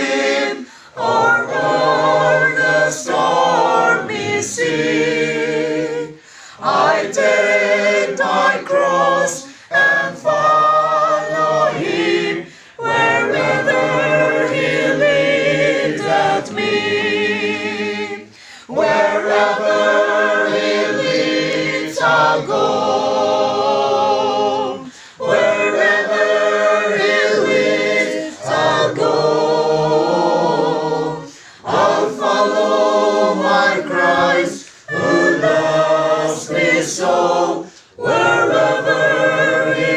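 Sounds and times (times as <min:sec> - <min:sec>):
group singing a hymn a cappella: 0:00.0 - 0:39.9.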